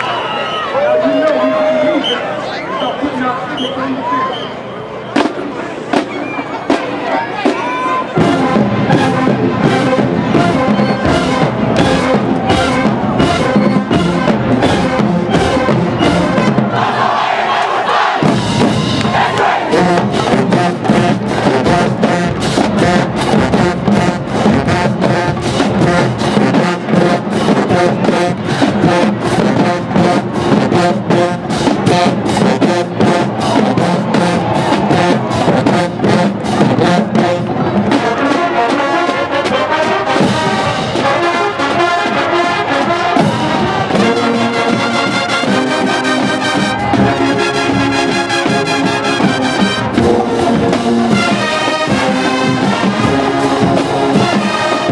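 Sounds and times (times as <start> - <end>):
marching band playing: 0.0 - 54.9
driving drum beat: 5.2 - 17.1, 18.1 - 38.8, 42.7 - 54.9
brass section: 6.7 - 54.9.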